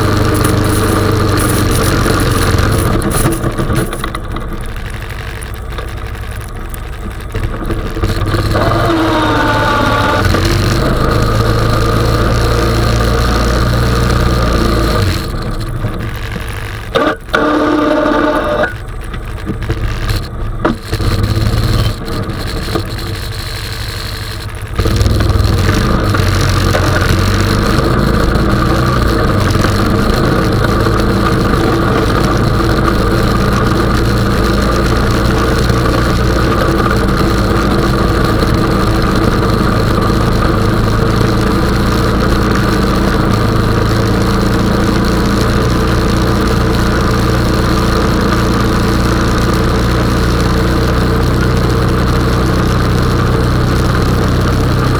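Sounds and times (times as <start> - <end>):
quad bike engine running: 0.0 - 54.9.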